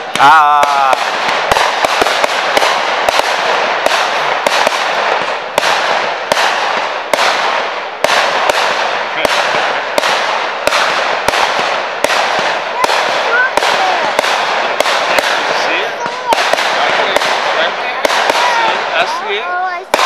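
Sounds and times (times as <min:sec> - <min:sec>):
fireworks bangs: 0:00.0 - 0:20.0
hissing crackle of fireworks: 0:00.0 - 0:20.0.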